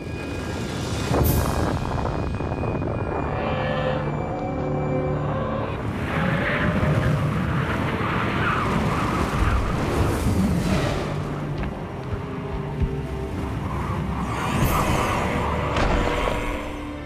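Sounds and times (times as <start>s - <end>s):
faint sustained music tones: 0.0s - 17.0s.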